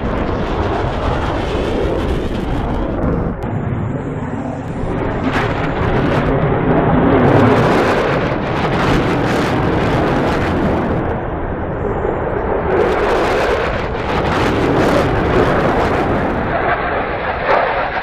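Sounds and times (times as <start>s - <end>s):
jet engine rushing: 0.0s - 18.0s.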